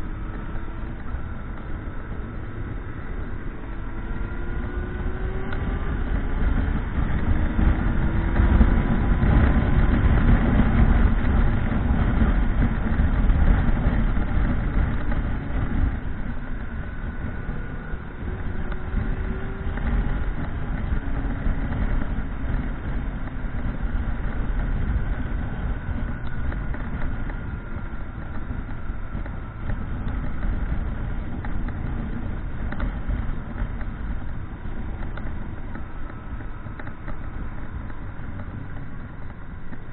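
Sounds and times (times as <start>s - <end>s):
motorcycle engine running: 0.0s - 39.9s
wind rumble: 0.0s - 39.9s.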